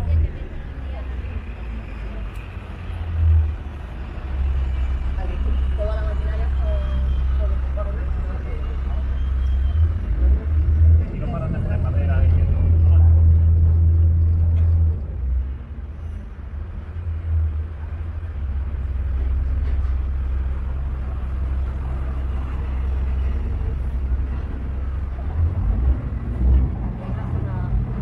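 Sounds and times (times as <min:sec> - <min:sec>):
motorboat engine rumble: 0:00.0 - 0:28.0.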